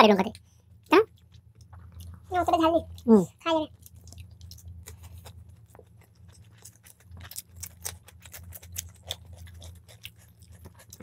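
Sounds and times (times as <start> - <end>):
steady low hum: 0.0 - 11.0
chewing and lip smacking: 0.8 - 3.1, 3.7 - 11.0.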